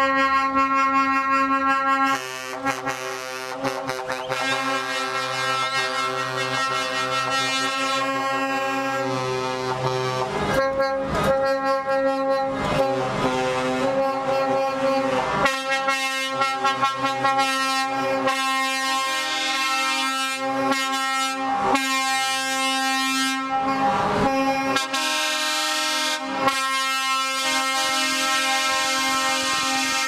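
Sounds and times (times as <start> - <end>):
truck air horn blasts: 0.0 - 30.0.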